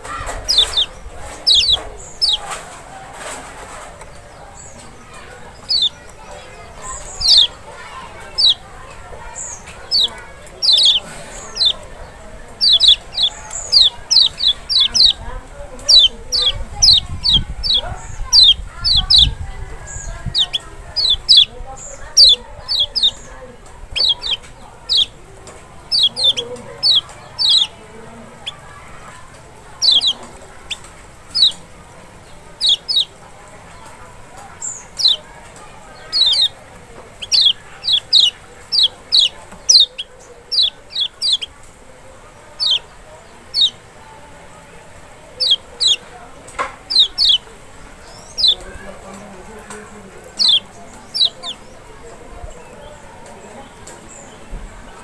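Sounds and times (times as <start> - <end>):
bird chirping: 0.0 - 55.0.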